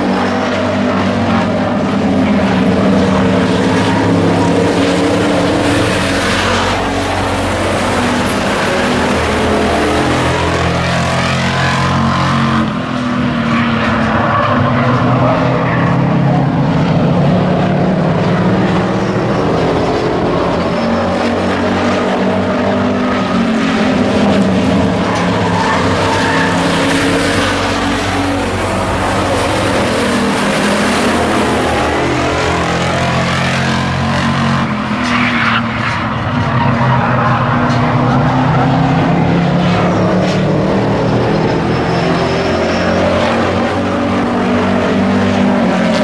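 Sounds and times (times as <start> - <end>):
racing truck engines: 0.0 - 46.0.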